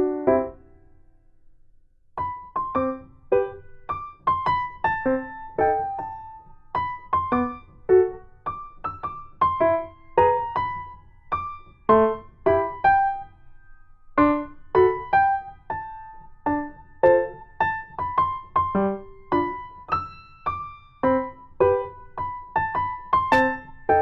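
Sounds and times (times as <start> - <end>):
soft piano music: 0.0 - 1.2, 2.2 - 24.0.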